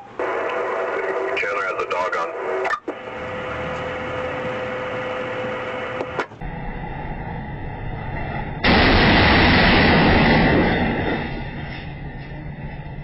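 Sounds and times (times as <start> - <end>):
road noise: 0.0 - 13.0
vehicle running: 0.9 - 13.0.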